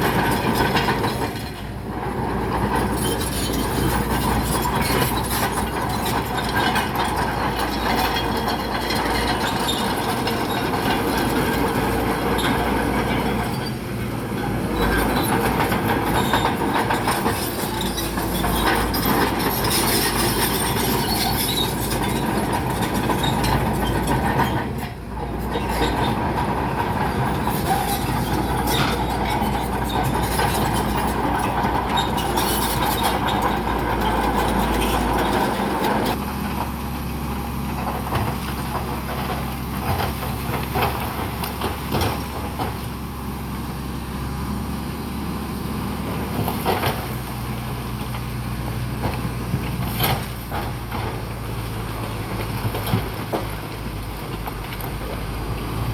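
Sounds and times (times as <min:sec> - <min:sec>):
crawler tracks clanking and squealing: 0:00.0 - 0:36.8, 0:37.7 - 0:44.7, 0:45.5 - 0:55.9
diesel engine under load: 0:00.0 - 0:55.9.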